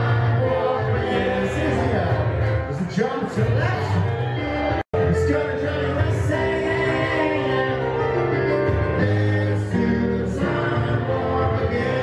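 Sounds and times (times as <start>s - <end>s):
person singing: 0.0s - 2.5s, 3.5s - 12.0s
grand piano playing: 0.0s - 12.0s.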